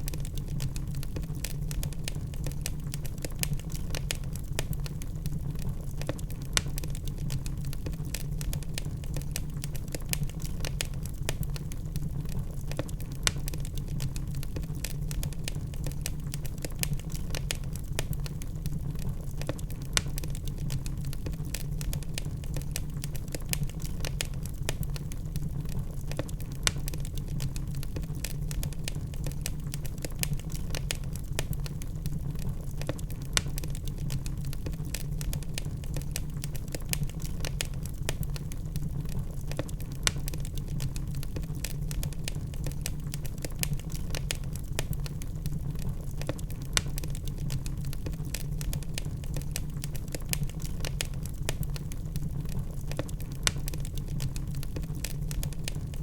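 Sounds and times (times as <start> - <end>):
wood fire burning: 0.0 - 56.0.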